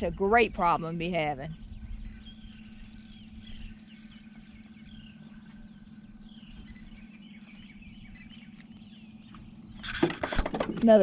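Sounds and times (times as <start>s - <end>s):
small birds chirping: 0.0s - 9.9s
steady low hum: 0.0s - 11.0s.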